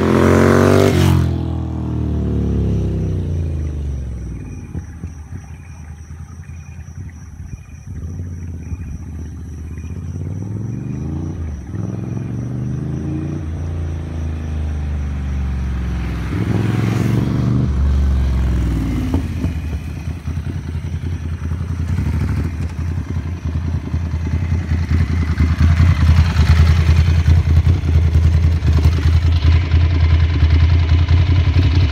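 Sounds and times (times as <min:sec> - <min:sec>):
motorcycle engine accelerating: 0:00.0 - 0:31.9.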